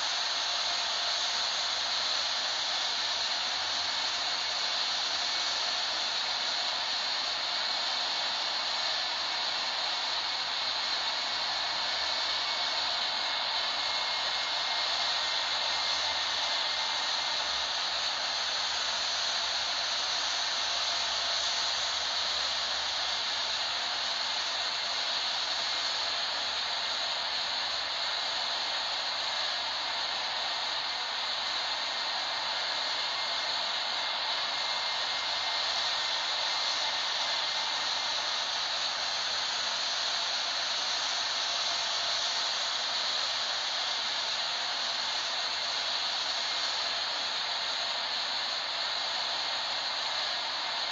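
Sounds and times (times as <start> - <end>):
airliner in flight: 0.0 - 50.9.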